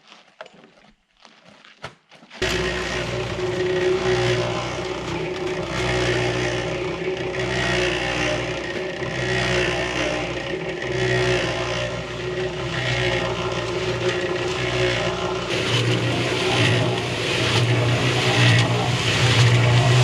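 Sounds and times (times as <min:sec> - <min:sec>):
motor running steadily: 0:02.4 - 0:20.0
rushing scraping noise: 0:02.4 - 0:20.0.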